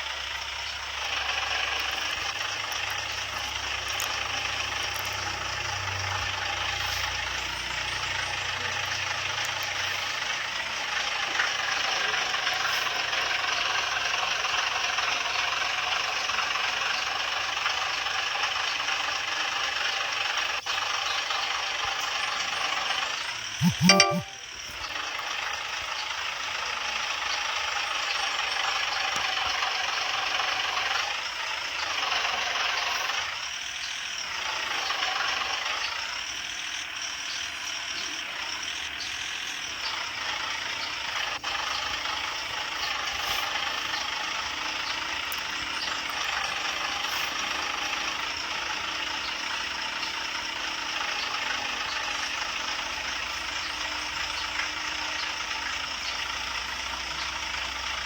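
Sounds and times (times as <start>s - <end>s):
heavy truck engine running: 0.0s - 23.6s, 24.6s - 58.0s.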